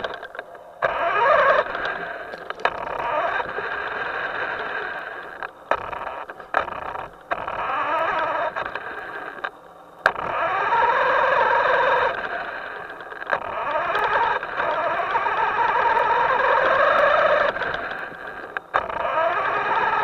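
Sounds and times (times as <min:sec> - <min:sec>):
sharp clicks: 0:00.0 - 0:20.0
small motor running in bursts: 0:00.0 - 0:20.0.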